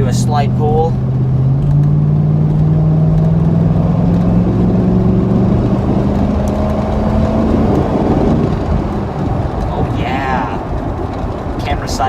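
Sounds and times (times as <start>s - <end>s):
truck engine pulling away: 0.0s - 12.0s.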